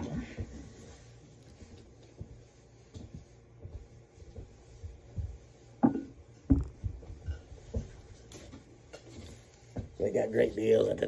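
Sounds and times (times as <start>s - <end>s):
thumps and knocks in a room: 0.0s - 10.6s.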